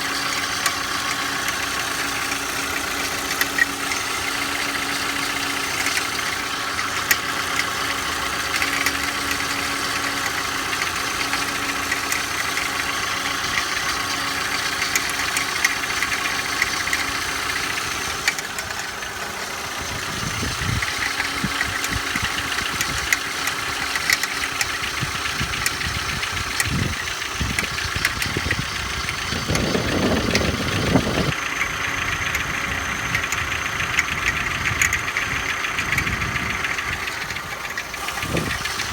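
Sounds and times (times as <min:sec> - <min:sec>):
car engine idling: 0:00.0 - 0:38.9
sharp engine ticking: 0:00.0 - 0:38.9.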